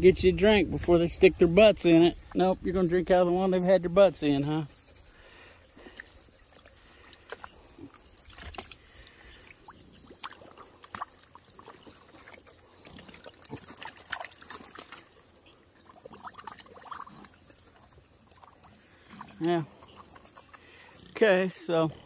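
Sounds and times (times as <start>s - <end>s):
animals slurping water: 0.0s - 22.0s.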